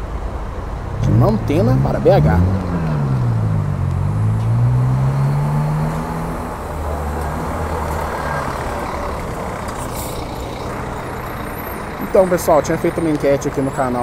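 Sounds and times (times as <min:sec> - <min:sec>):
diesel coach pulling away: 0:00.8 - 0:14.0.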